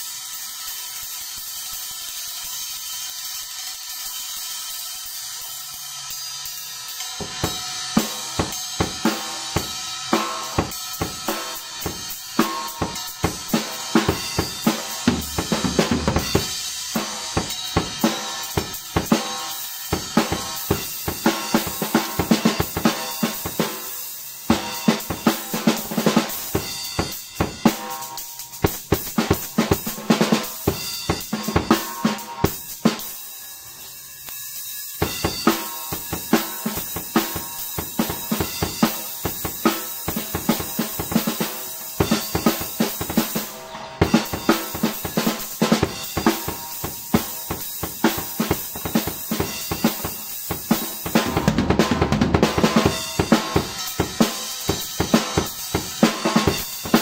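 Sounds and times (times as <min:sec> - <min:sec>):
cymbals and hi-hat hissing: 0:00.0 - 0:57.0
snare and bass drum groove: 0:07.2 - 0:33.2, 0:35.0 - 0:57.0.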